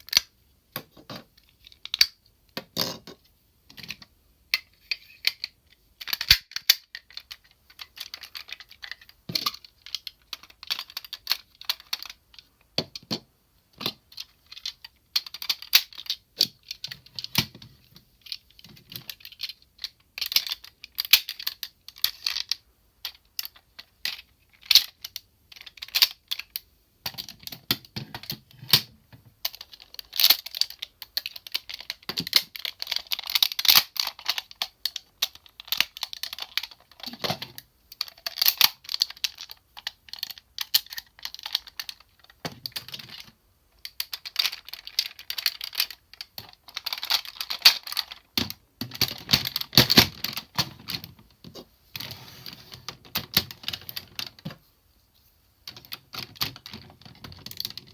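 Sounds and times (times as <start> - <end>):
plastic toy parts clicking: 0.0 - 13.2, 13.8 - 51.2, 55.7 - 57.9.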